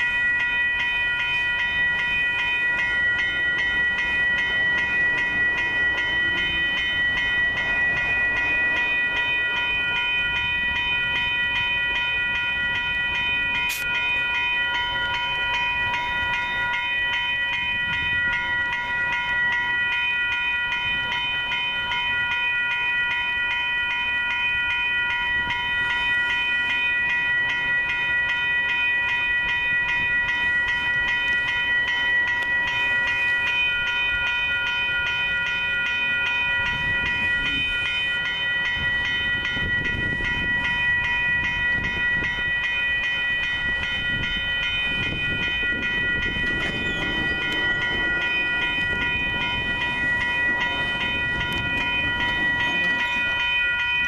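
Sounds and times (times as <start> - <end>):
railroad crossing bell ringing: 0.0 - 54.0.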